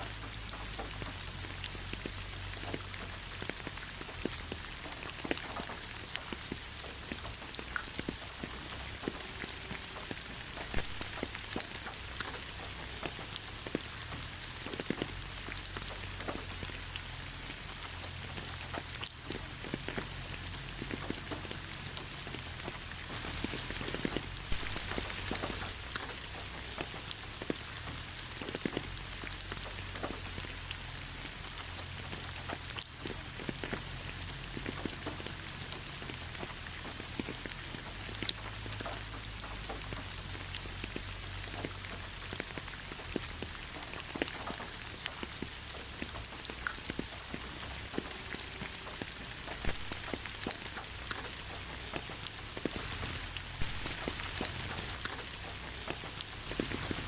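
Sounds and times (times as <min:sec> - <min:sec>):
rain falling: 0:00.0 - 0:57.0
raindrops pattering on a surface: 0:00.0 - 0:57.0.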